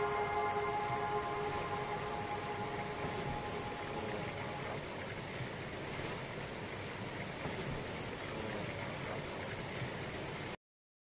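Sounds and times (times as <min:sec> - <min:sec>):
mountain stream rushing over rocks: 0:00.0 - 0:10.6.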